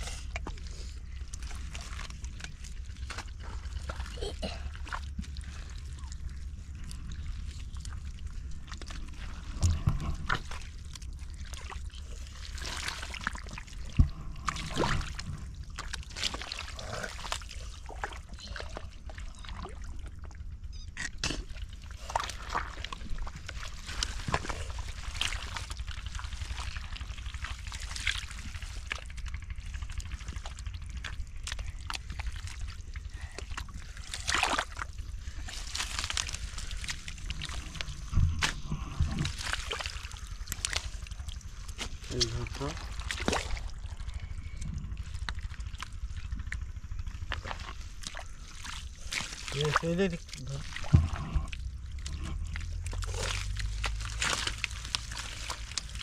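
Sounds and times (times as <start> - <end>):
low rumble: 0.0 - 56.0
water sloshing and splashing: 0.0 - 56.0.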